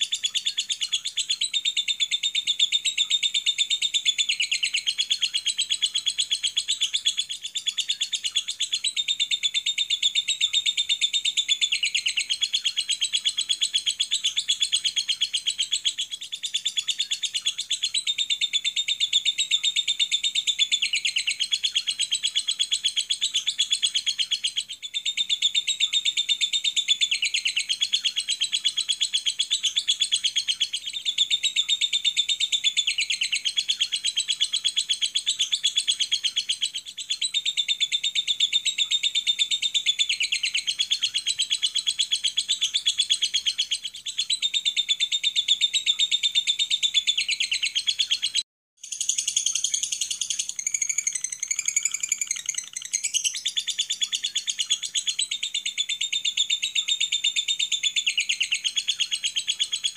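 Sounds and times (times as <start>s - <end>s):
lovebird chattering song: 0.0s - 59.9s.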